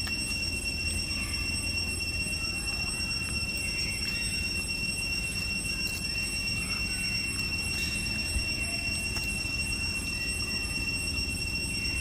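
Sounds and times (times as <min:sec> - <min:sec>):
high-pitched drone: 0:00.0 - 0:12.0.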